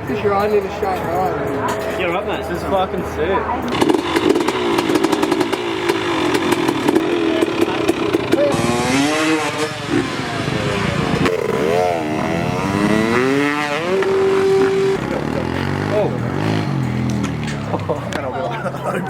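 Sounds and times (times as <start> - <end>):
dirt bike engine revving: 0.0 - 18.4.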